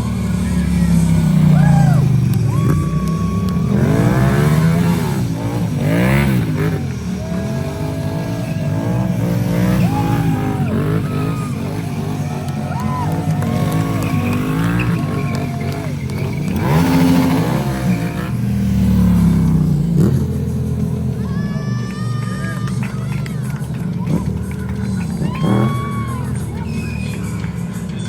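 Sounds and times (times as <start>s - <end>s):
motorcycle engine revving: 0.0s - 28.0s
tires squealing on pavement: 0.0s - 28.0s.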